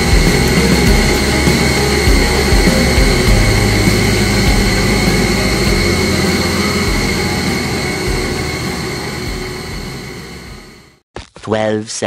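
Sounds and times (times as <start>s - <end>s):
machinery drone with high whine: 0.0s - 11.0s.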